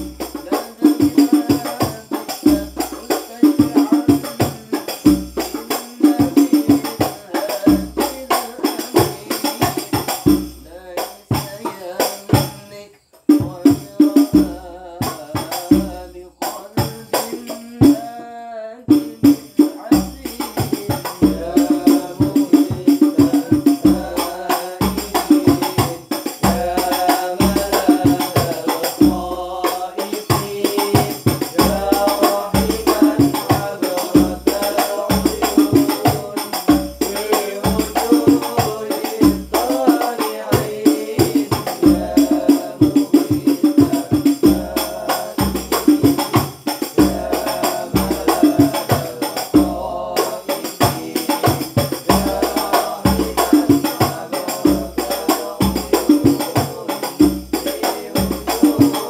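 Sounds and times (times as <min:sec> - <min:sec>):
frame drums beating: 0:00.0 - 0:12.6, 0:13.2 - 0:18.1, 0:18.9 - 0:59.0
men singing: 0:00.0 - 0:59.0.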